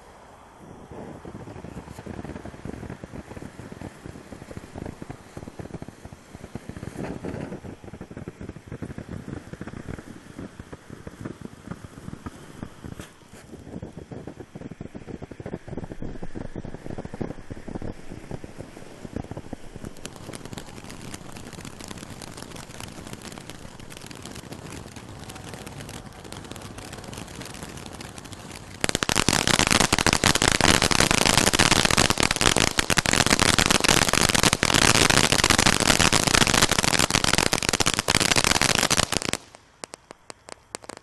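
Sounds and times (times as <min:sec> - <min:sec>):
firework fountain hissing and crackling: 0:00.0 - 0:41.0
scattered firework pops: 0:01.0 - 0:41.0.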